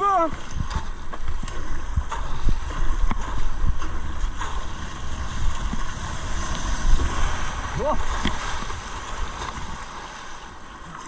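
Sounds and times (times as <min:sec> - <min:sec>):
water splashing around kayak: 0:00.0 - 0:11.0
wind buffeting microphone: 0:00.0 - 0:11.0.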